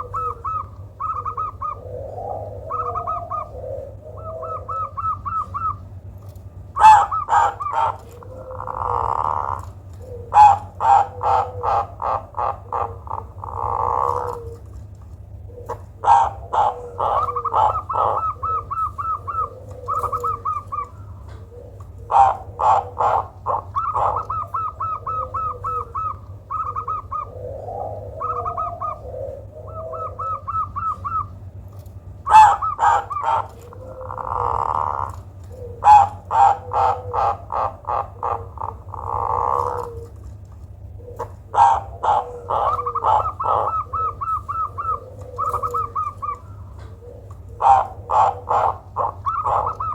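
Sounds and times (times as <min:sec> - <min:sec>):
dove calling with trills: 0:00.0 - 0:49.9.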